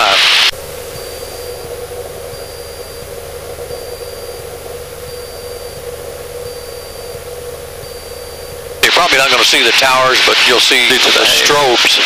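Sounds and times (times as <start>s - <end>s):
airplane engine droning: 0.0s - 12.0s.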